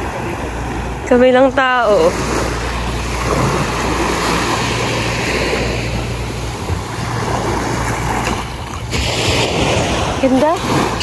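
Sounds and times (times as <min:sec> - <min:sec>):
small waves on sandy shore: 0:00.0 - 0:11.0
wind rumble on microphone: 0:00.0 - 0:11.0.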